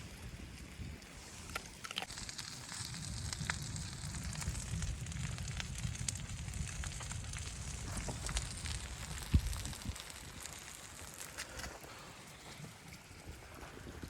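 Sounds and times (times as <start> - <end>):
low rumble of wind: 0.0 - 14.0
wood fire crackling: 0.0 - 14.0.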